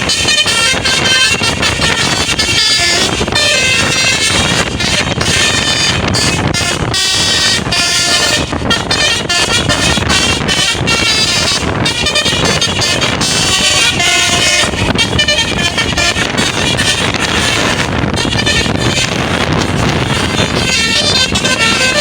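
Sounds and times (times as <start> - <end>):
bus horn playing a tune: 0.0 - 22.0.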